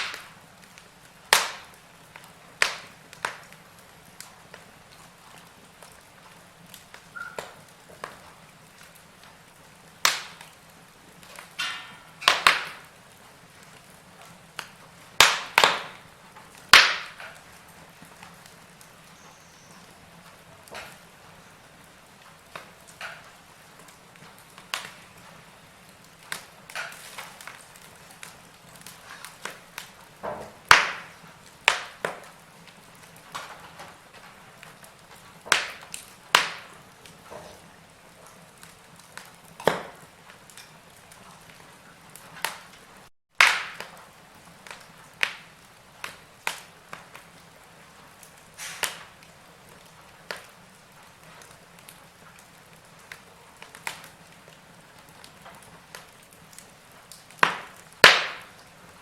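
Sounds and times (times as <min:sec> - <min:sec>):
faint hiss of flames: 0:00.0 - 0:59.0
fire crackling and popping: 0:00.0 - 0:59.0.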